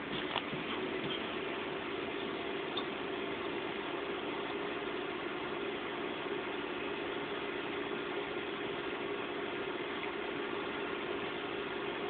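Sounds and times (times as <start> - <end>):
computer fans humming: 0.0 - 12.0.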